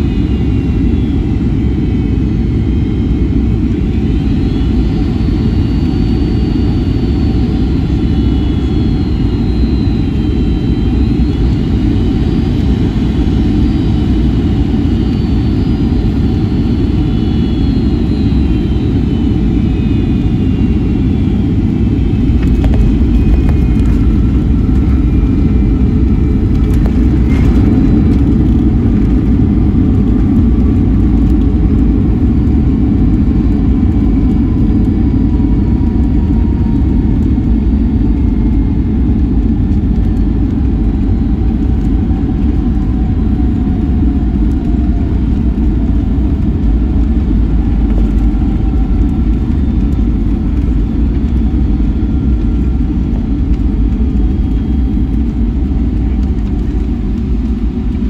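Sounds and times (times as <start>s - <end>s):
aircraft cabin low rumble: 0.0s - 58.0s
jet engine whine: 0.0s - 58.0s.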